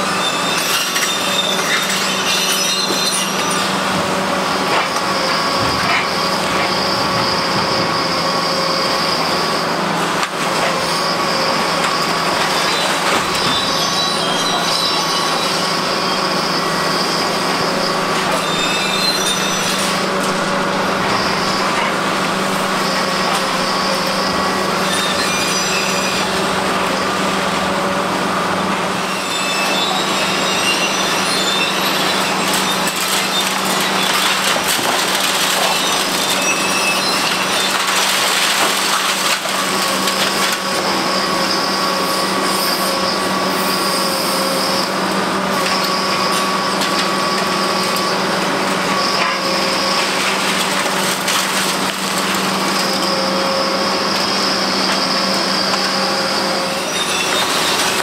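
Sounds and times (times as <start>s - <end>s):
high metallic squeal: 0.0s - 28.0s, 28.9s - 58.0s
excavator engine hum: 0.0s - 58.0s.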